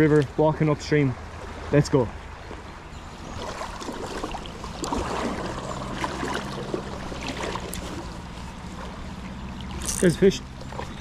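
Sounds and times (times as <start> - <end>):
river water splashing around legs: 0.0 - 11.0.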